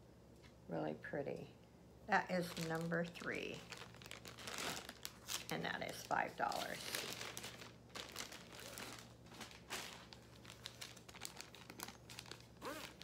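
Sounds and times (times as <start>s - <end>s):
low steady hum: 0.0s - 13.0s
crinkling and rustling: 2.4s - 13.0s.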